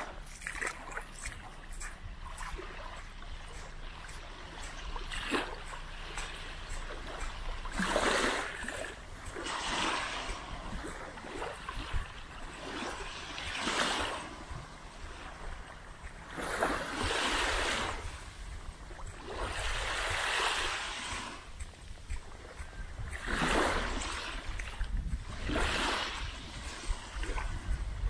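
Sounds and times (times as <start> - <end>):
small waves washing onto beach: 0.0 - 28.0.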